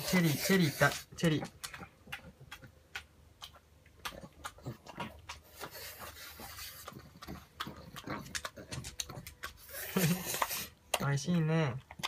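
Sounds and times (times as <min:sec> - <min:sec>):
dog chewing wetly: 0:00.0 - 0:12.0.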